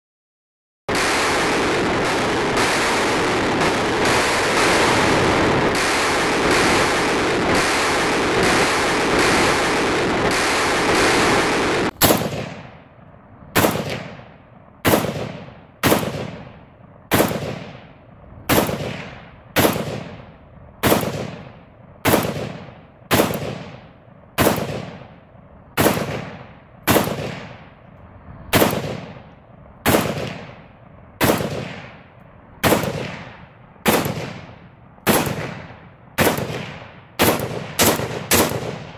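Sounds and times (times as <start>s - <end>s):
gunshots with echo: 0.9s - 12.9s, 13.6s - 27.8s, 28.5s - 38.9s.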